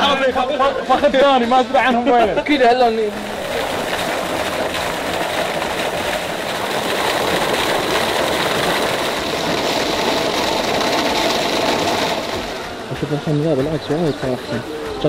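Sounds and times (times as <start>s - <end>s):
water jet splashing into pool: 2.8s - 15.0s.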